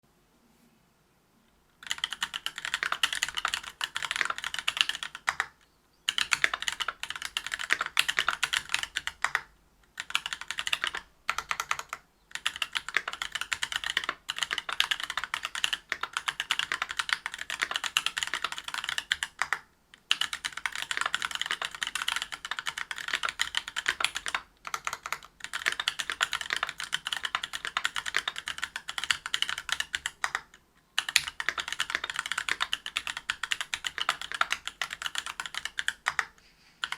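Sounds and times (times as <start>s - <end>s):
fast mechanical keyboard typing: 1.8s - 36.9s.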